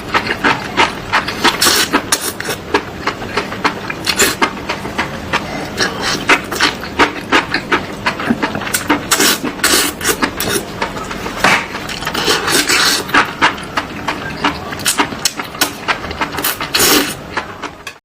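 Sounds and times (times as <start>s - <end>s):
slurping: 0.0s - 17.7s.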